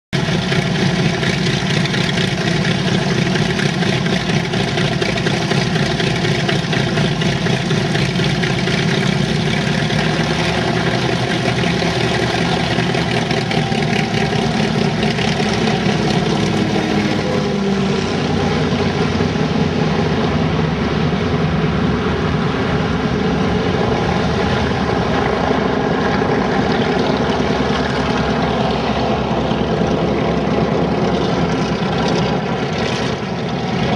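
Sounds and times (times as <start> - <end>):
propeller noise: 0.1 - 33.9
radial aircraft engines running: 0.2 - 33.9.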